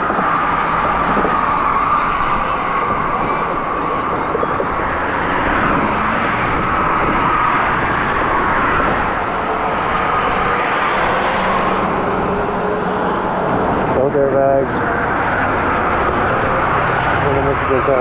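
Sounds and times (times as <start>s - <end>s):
vehicle and wind rush: 0.0s - 18.0s.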